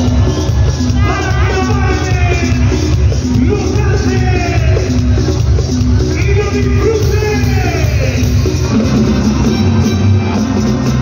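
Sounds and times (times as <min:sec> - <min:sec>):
live band music over pa: 0:00.0 - 0:11.0.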